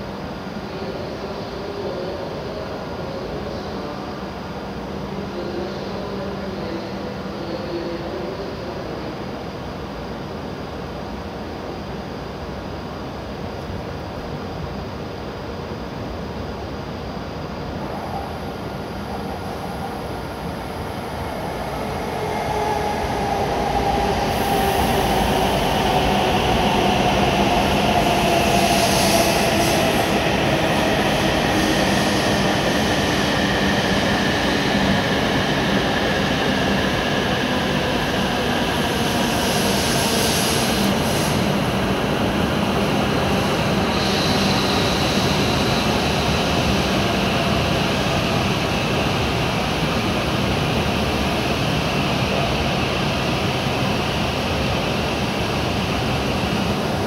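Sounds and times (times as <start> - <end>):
rush of train wheels and air: 0.0 - 57.0.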